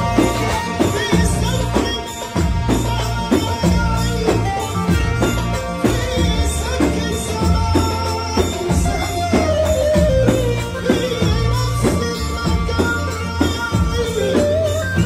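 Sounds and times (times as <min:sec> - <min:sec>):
electronic keyboard melody: 0:00.0 - 0:15.0
hand drums beat: 0:00.0 - 0:15.0
heavy bass: 0:00.0 - 0:15.0.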